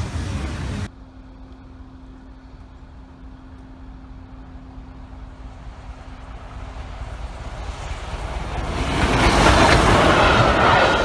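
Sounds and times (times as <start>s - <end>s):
steam train rumbling: 0.0s - 0.9s, 1.9s - 11.0s.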